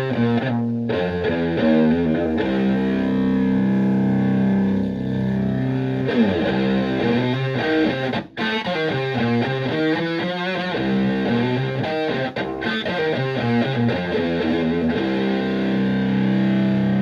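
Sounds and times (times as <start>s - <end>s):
fuzzed electric guitar: 0.0s - 17.0s.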